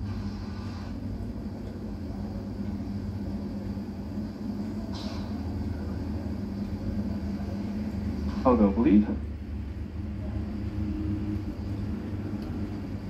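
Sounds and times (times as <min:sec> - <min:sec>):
television speaker hum: 0:00.0 - 0:13.0.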